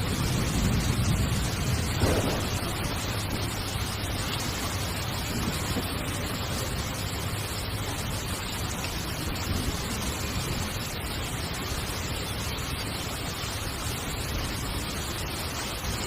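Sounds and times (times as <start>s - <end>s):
heavy rain on a tent: 0.0s - 16.0s.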